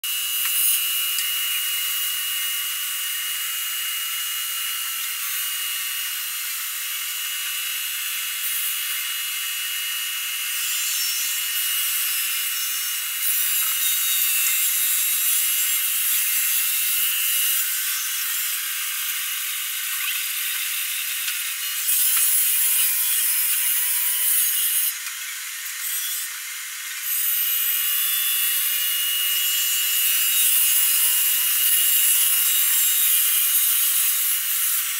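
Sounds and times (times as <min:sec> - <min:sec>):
polishing machine grinding marble: 0:00.1 - 0:34.9.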